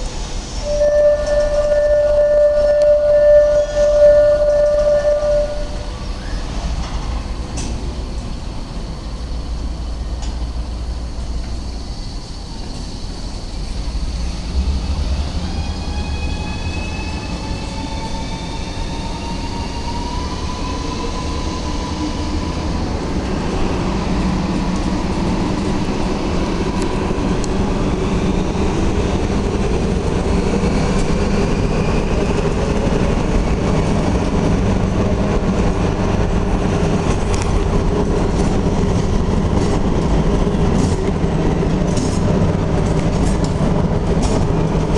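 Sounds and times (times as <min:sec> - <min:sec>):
diesel locomotive passing: 0:00.0 - 0:44.9
freight wagons rumbling on rails: 0:00.0 - 0:44.9.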